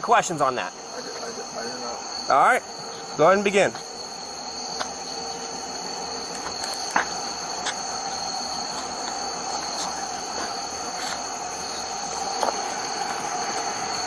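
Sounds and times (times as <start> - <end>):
crickets chirring: 0.0 - 14.0
steady background hum: 0.0 - 14.0.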